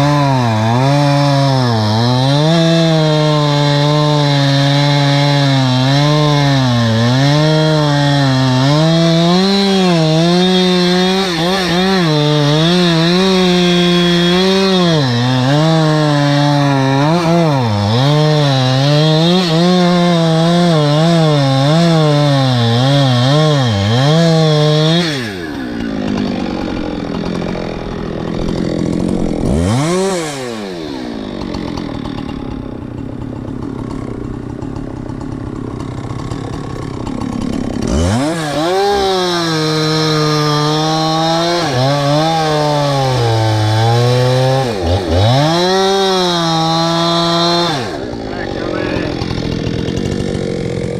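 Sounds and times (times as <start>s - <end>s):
chainsaw cutting wood: 0.0s - 50.9s
chainsaw idling: 0.0s - 50.9s.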